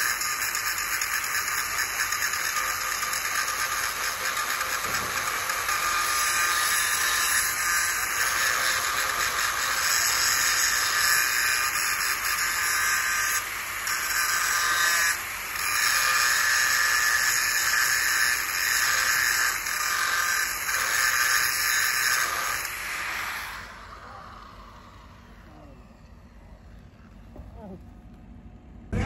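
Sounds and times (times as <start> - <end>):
angle grinder grinding steel: 0.0 - 25.5.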